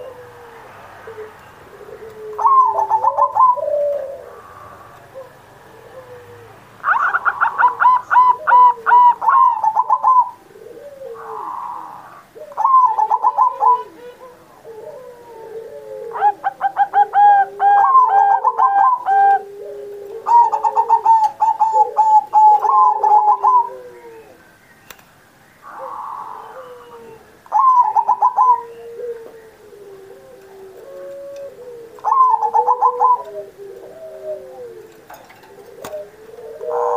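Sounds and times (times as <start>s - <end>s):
dove soft gliding coos: 0.0s - 24.6s, 25.6s - 36.9s
dove trilling: 0.0s - 36.9s.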